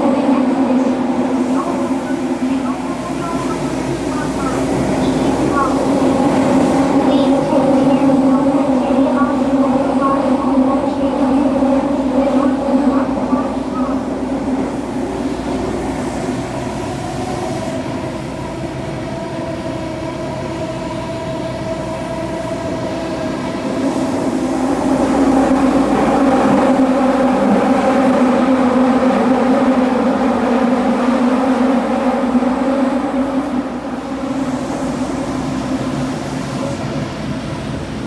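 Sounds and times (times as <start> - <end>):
subway car running rumble: 0.0 - 38.0.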